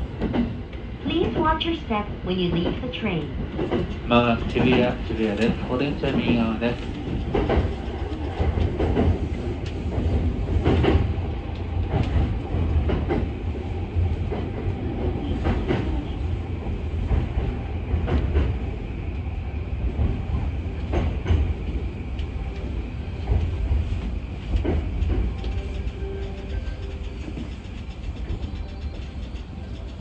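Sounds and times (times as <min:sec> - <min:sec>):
train rumbling: 0:00.0 - 0:30.0.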